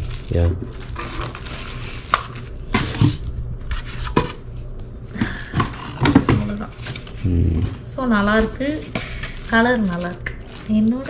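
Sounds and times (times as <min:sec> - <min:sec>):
plastic wrap rustling: 0:00.0 - 0:04.8, 0:05.5 - 0:11.0.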